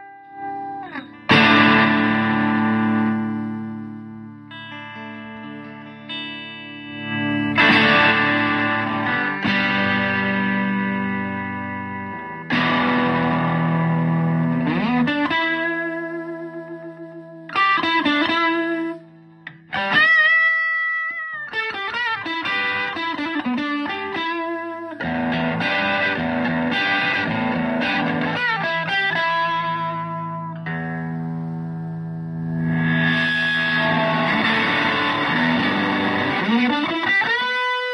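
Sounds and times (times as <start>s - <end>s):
electric guitar playing: 0.0s - 37.9s.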